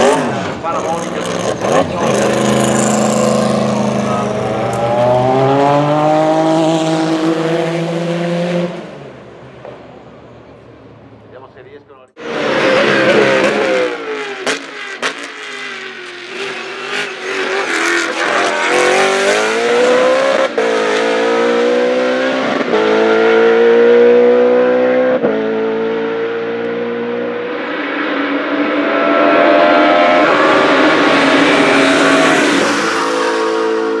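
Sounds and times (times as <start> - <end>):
race car engine accelerating: 0.0 - 9.2, 12.2 - 34.0.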